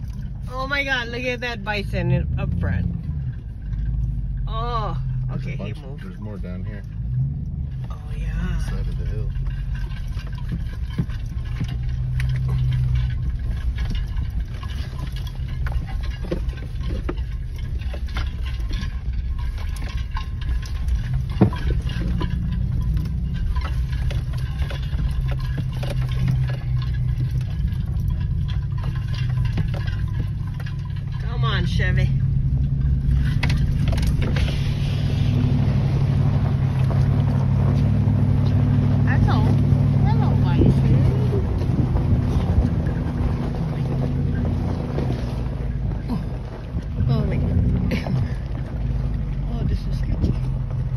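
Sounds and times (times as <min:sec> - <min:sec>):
truck engine running low: 0:00.0 - 0:50.9
knocks and rattles in cab: 0:05.4 - 0:34.6, 0:35.7 - 0:50.9.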